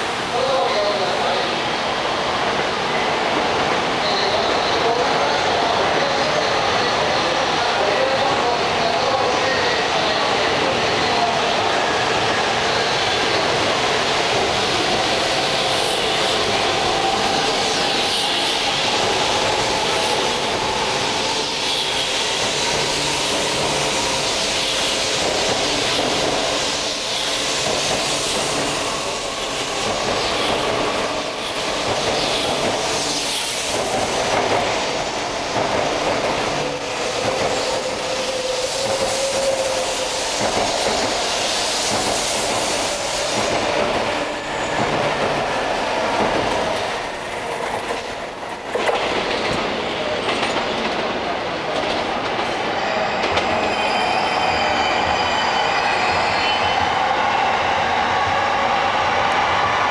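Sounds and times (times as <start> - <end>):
train running noise with whine: 0.0 - 59.9.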